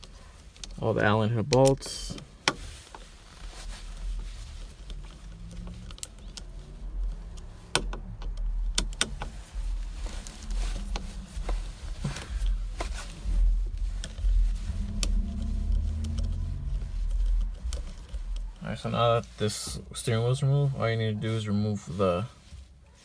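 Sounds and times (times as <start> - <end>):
low rumbling handling noise: 0.0 - 22.9.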